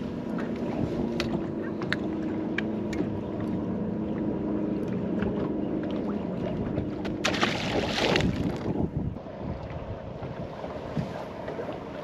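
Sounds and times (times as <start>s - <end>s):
small waves slapping hull: 0.0s - 12.0s.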